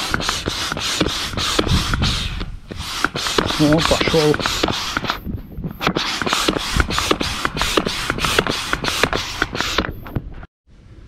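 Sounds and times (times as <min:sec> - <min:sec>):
manual air pump strokes: 0:00.0 - 0:10.5.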